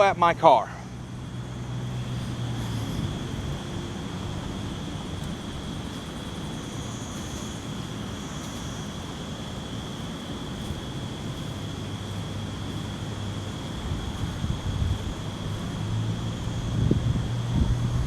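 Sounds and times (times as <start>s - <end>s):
distant traffic rumble: 0.0s - 18.0s
insects trilling: 0.0s - 18.0s.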